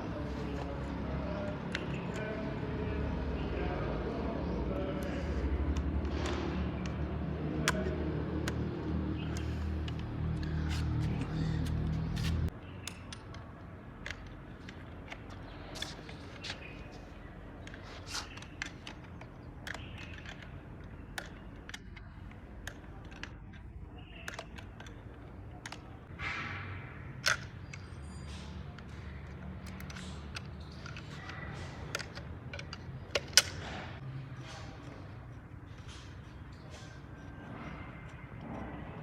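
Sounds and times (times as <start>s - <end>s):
tools and metal parts clicking: 0.1s - 26.1s, 27.1s - 39.0s.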